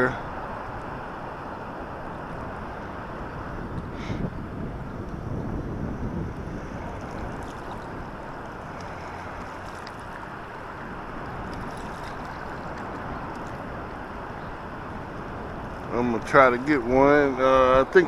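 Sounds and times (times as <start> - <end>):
wind rushing: 0.0 - 16.0
moving water: 0.0 - 18.0.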